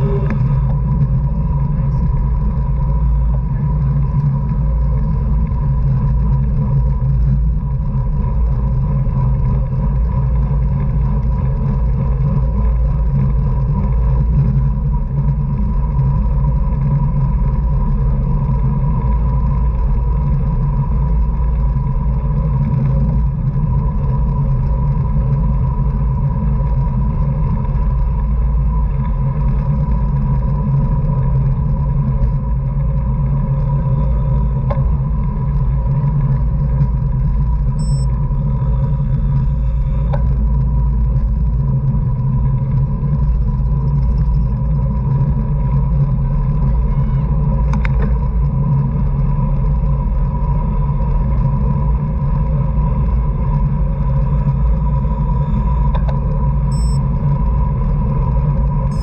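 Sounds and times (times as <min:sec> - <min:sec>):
faint steady whine: 0:00.0 - 0:59.0
wind roar on microphone: 0:00.0 - 0:59.0.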